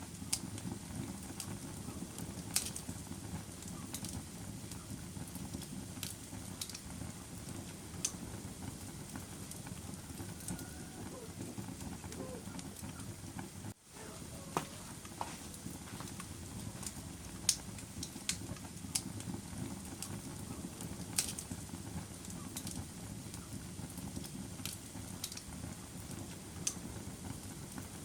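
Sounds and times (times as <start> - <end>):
fire crackling and popping: 0.0 - 28.0
flames rushing in fireplace: 0.0 - 28.0.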